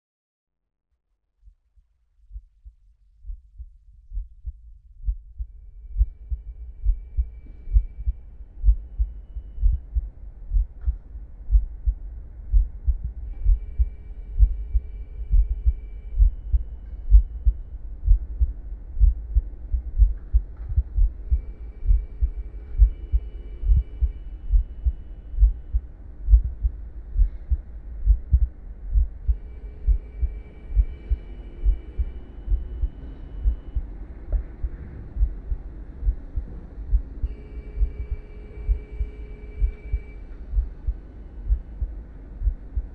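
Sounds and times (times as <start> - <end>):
deep heartbeat-like thumps: 1.4 - 42.9.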